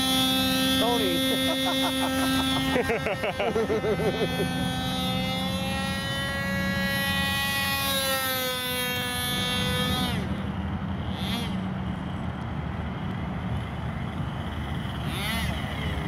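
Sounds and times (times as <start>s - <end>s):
low steady drone: 0.0s - 16.0s
model airplane engine whine: 0.0s - 16.0s.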